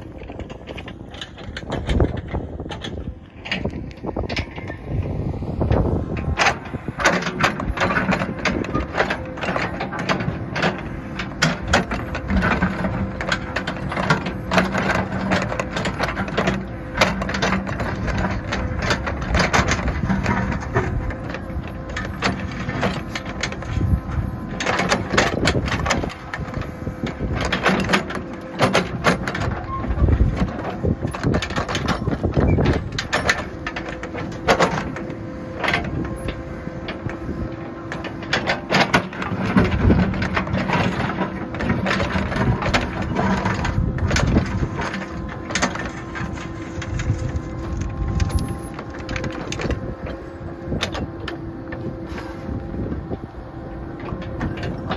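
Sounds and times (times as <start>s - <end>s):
backhoe engine humming: 0.0s - 54.9s
knocks and clatter of digging: 0.0s - 54.9s.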